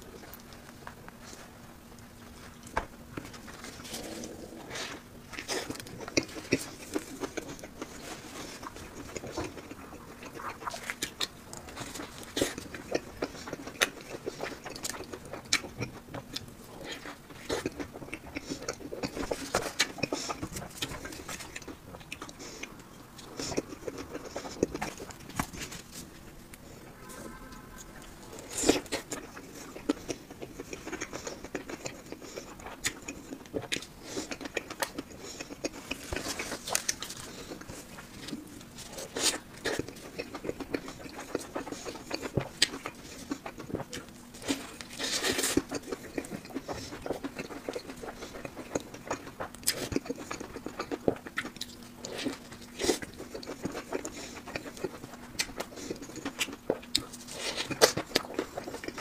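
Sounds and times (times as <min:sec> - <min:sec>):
chewing crispy fried food: 0:00.0 - 0:59.0.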